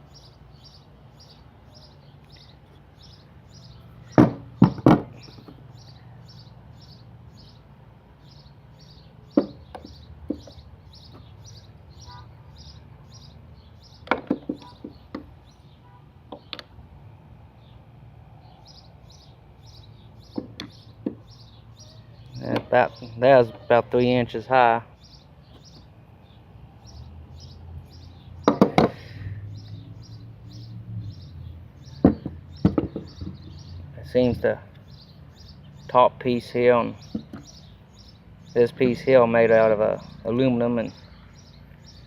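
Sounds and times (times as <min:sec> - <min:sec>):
bird chirping: 0:00.0 - 0:16.7, 0:17.6 - 0:42.0.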